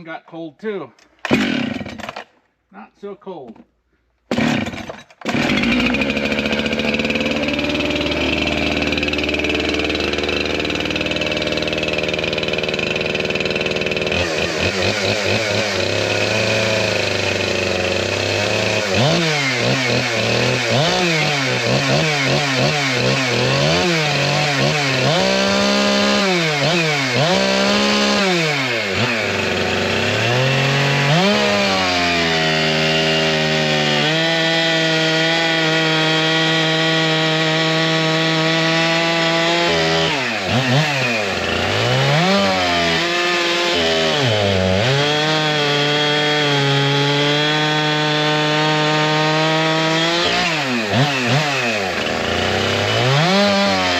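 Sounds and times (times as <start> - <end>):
chainsaw cutting wood: 1.1 - 2.5, 4.2 - 53.9.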